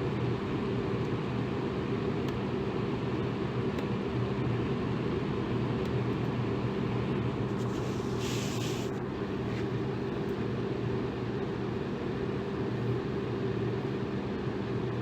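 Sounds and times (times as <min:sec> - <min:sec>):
electric fan whooshing hum: 0:00.0 - 0:15.0.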